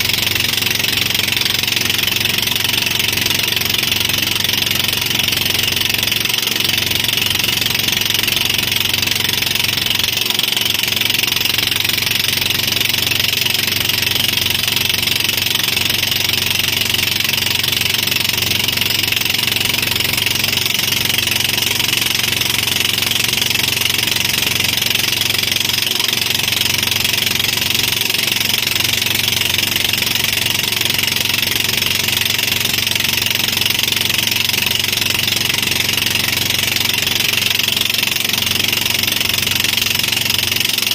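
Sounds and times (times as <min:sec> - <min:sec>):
motorboat engine running: 0:00.0 - 0:40.9.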